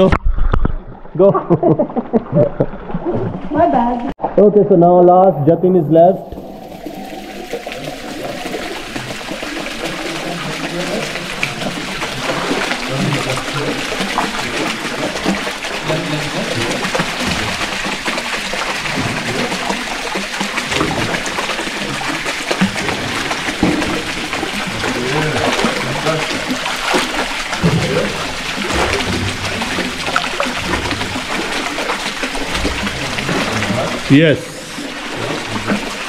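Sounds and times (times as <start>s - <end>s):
water splashing down rocks: 6.2s - 36.0s.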